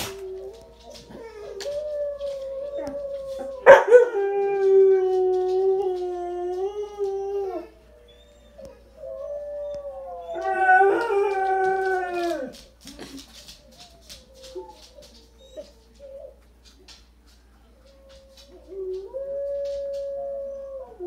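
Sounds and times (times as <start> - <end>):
dog howling: 0.0 - 12.6, 13.8 - 16.4, 17.8 - 21.0.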